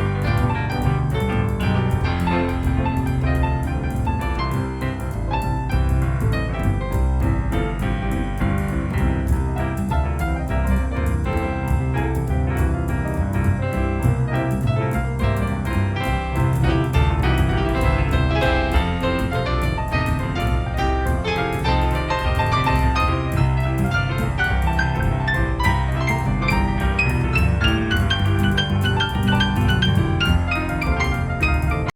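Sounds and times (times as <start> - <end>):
piano music with steady beat: 0.0 - 31.9.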